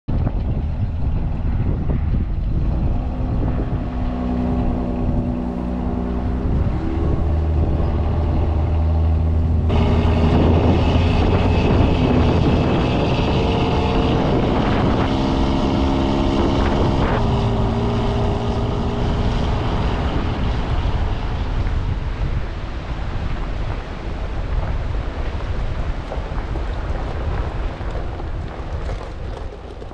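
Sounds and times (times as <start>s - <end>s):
road noise: 0.1s - 29.9s
vehicle engine: 0.1s - 29.9s.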